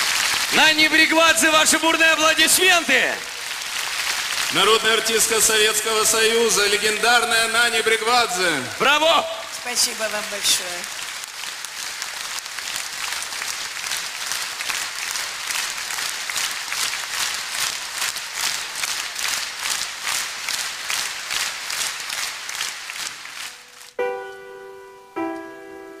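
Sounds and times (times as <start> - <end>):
audience rhythmic applause: 0.0 - 24.0.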